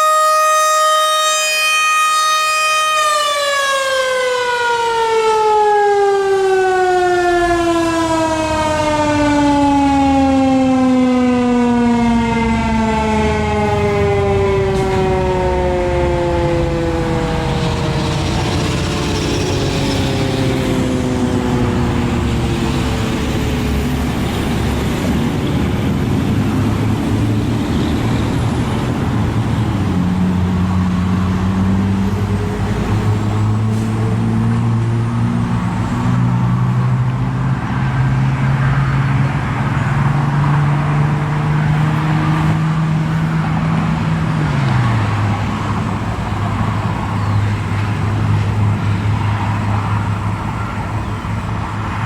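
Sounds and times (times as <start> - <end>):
road traffic passing: 0.0 - 52.0
low engine hum: 7.2 - 52.0.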